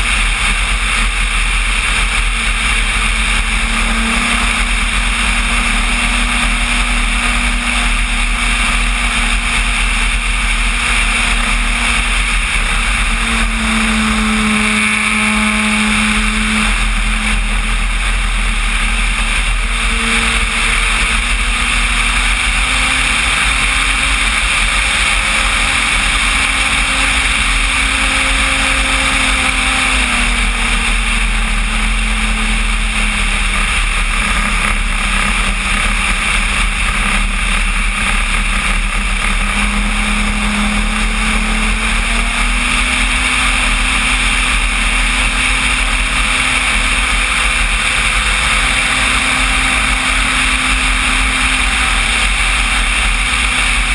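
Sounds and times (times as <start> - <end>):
electric motor and propeller droning: 0.0 - 53.9
slipstream wind rush: 0.0 - 53.9.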